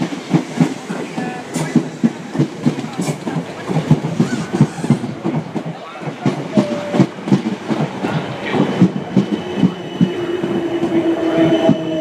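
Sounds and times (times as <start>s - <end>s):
train wheels clattering: 0.0s - 12.0s.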